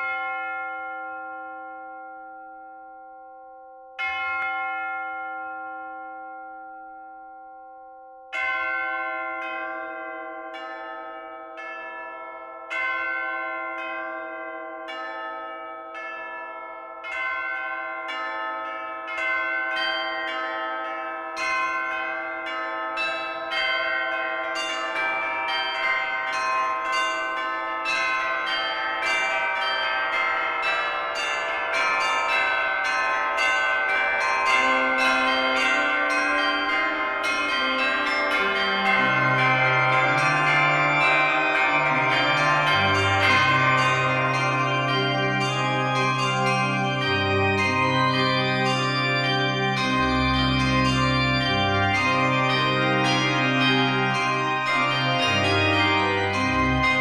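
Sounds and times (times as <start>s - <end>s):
deep bell chimes: 0.0s - 57.0s.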